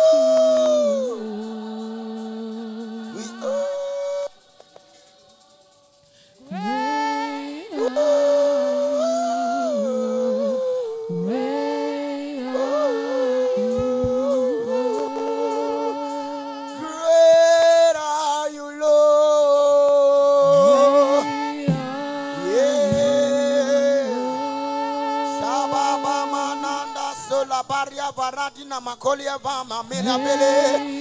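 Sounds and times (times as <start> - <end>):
person singing wordless melody: 0.0 - 31.0.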